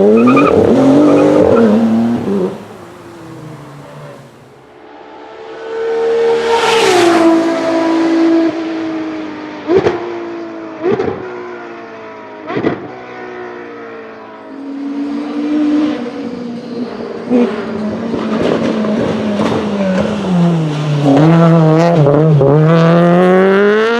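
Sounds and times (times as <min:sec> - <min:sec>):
race car passing: 0:00.0 - 0:23.9.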